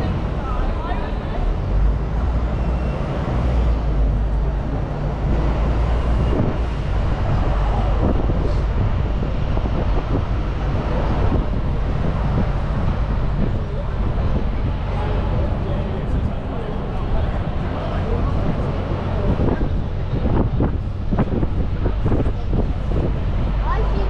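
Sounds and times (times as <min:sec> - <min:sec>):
low vehicle rumble: 0:00.0 - 0:24.0
road traffic noise: 0:00.0 - 0:24.0.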